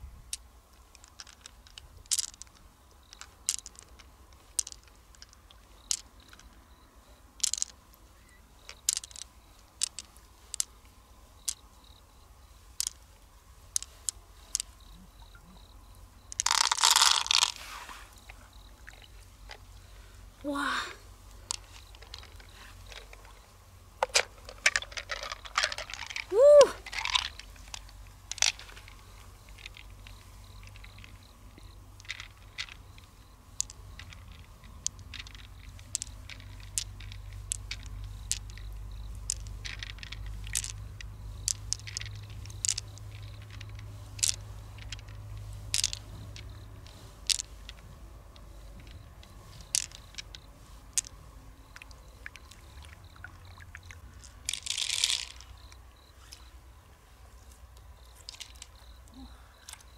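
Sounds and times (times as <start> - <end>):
pearls clicking together: 0.2 - 56.6, 57.4 - 59.9.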